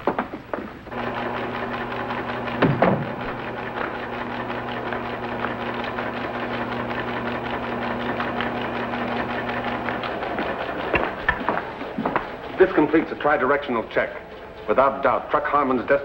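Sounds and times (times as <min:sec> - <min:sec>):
rapid mechanical clatter: 0:00.2 - 0:16.0.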